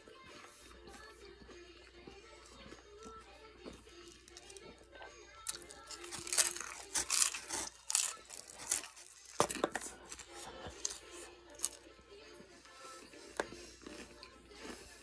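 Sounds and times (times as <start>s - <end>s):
crunching of taco shell being chewed: 1.8s - 11.9s, 12.7s - 15.0s.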